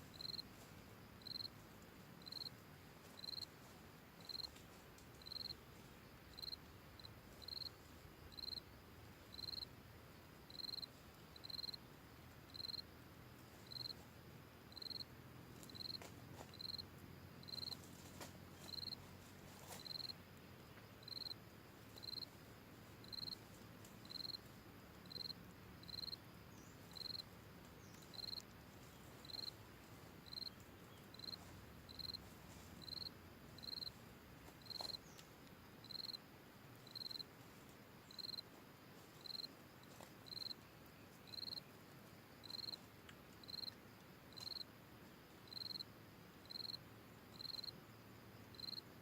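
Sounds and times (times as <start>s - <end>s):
insect chirping: 0.0s - 49.0s.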